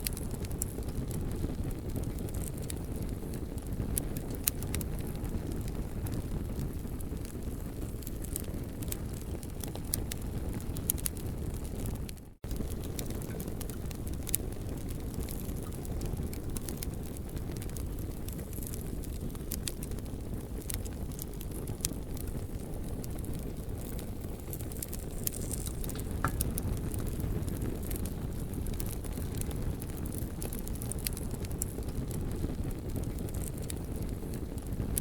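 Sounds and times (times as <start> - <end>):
campfire crackling and popping: 0.0 - 35.0
low fire rumble: 0.0 - 35.0.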